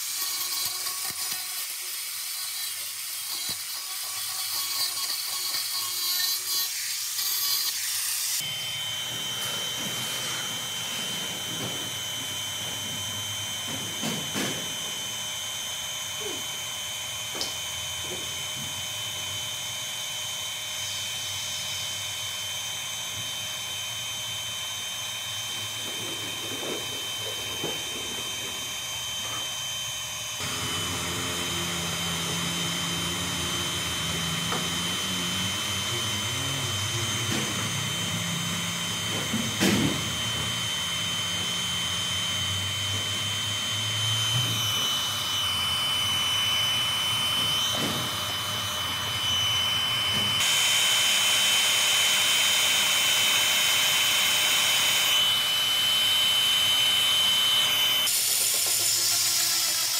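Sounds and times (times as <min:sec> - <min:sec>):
hot-air gun whirring hiss: 0:00.0 - 0:59.9.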